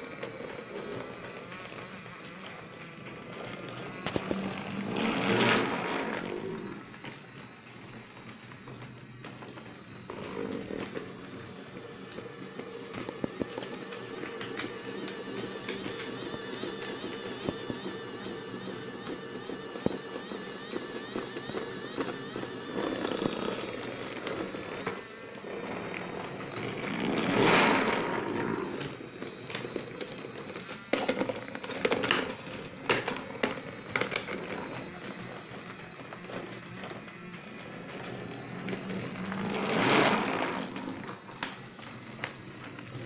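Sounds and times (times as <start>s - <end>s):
toy train motor whining: 0.0s - 43.0s
wheels clicking over track joints: 0.0s - 43.0s.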